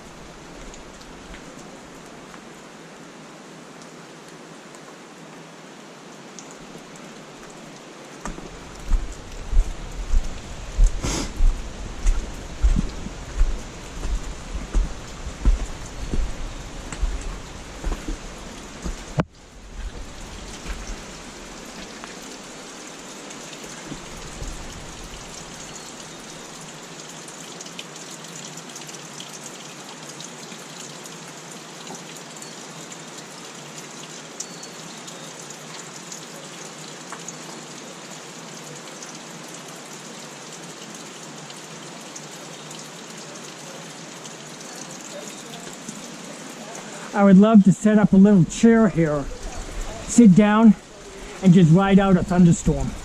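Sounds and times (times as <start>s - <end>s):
brook waterfall splashing: 0.0s - 53.0s.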